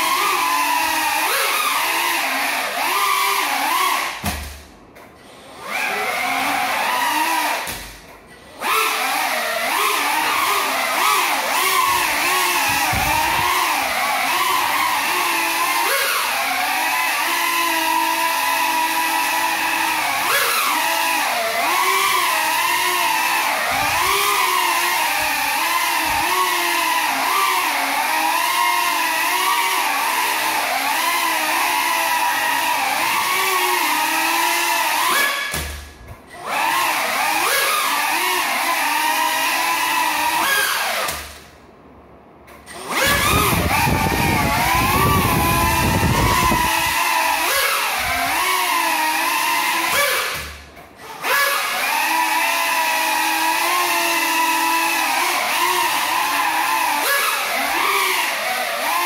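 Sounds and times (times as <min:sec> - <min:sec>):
quadcopter motors whining: 0:00.0 - 0:41.6, 0:42.5 - 0:59.0.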